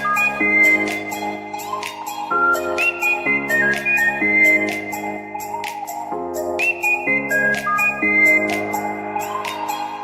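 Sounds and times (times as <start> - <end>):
whistle-like melody: 0.0 - 10.0.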